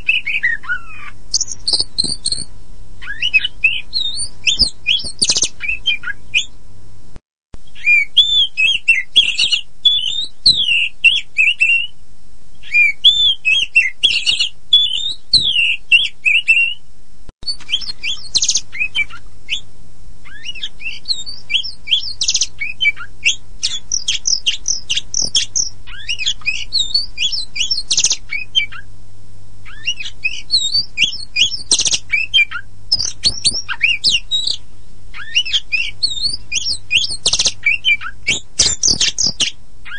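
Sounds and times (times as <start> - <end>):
bird singing whistled phrases: 0.0 - 6.6, 7.7 - 11.9, 12.6 - 16.8, 17.4 - 19.6, 20.3 - 28.9, 29.7 - 39.9
faint steady hum: 0.0 - 39.9.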